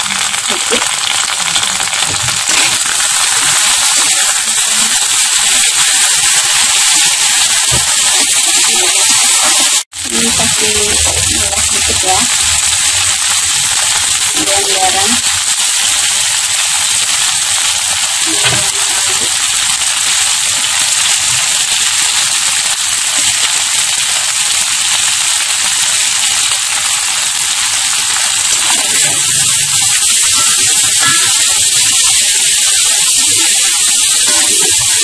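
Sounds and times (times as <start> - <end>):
tofu sizzling in hot oil: 0.0 - 35.0.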